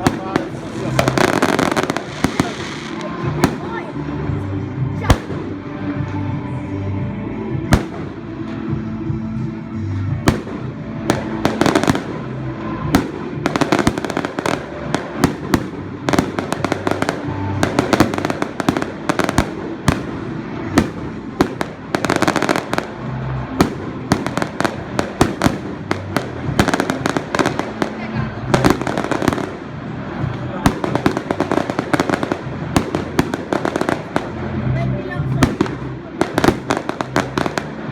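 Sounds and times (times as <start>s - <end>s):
fireworks bangs and crackling: 0.0s - 6.4s, 7.0s - 37.9s.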